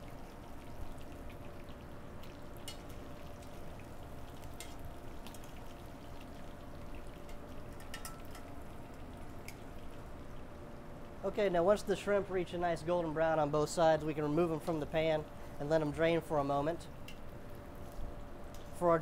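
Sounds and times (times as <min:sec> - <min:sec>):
shrimp frying in hot oil: 0:00.0 - 0:19.0.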